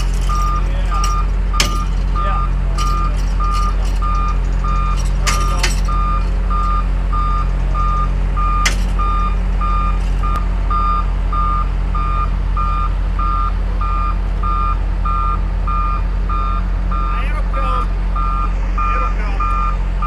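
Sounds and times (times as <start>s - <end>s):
loader engine running: 0.0s - 20.0s
backup alarm beeping: 0.3s - 17.2s, 18.2s - 19.8s.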